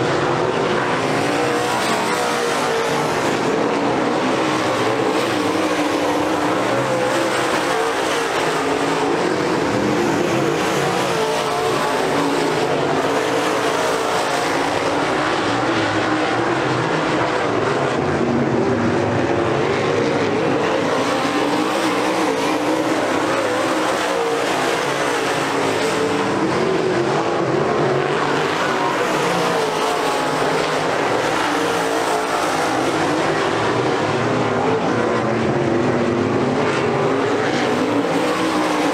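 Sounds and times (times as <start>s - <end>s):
race car engines at high revs: 0.0s - 38.9s.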